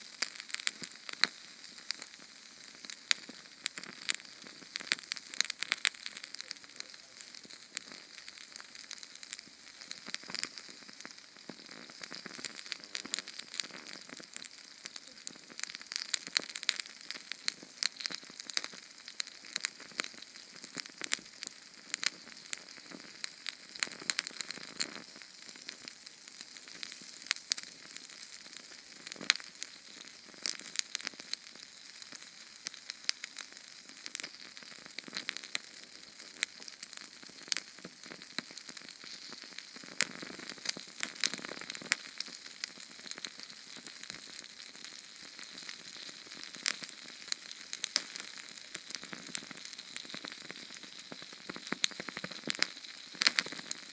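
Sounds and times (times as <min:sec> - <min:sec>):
flame hiss: 0:00.0 - 0:53.9
small flame crackling: 0:00.0 - 0:53.9.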